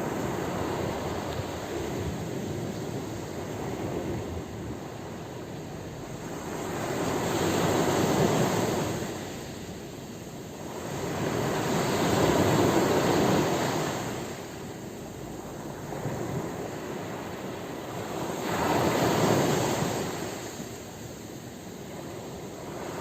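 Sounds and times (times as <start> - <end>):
sea waves washing in: 0.0 - 23.0.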